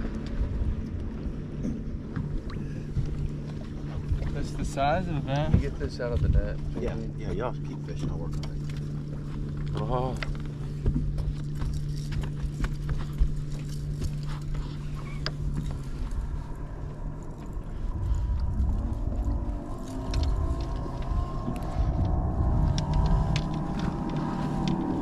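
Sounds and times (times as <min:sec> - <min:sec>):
low rumble: 0:00.0 - 0:25.0
steady low hum: 0:00.0 - 0:25.0.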